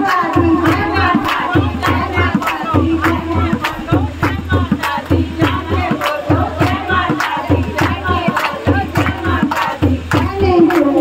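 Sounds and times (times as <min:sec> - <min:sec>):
drum beats: 0:00.0 - 0:11.0
rhythmic hand claps: 0:00.0 - 0:11.0
women singing in chorus: 0:00.0 - 0:11.0.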